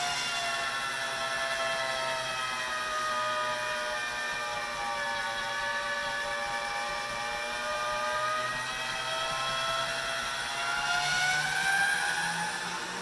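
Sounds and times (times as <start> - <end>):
pasta machine motor whining: 0.0 - 13.0.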